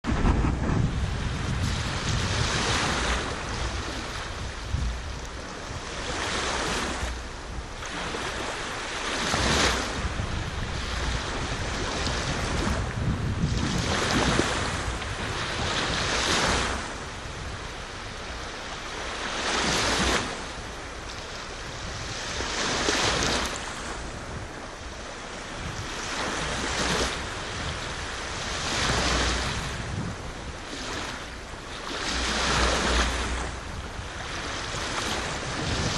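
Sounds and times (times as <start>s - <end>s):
sea waves breaking on shore: 0.0s - 35.9s.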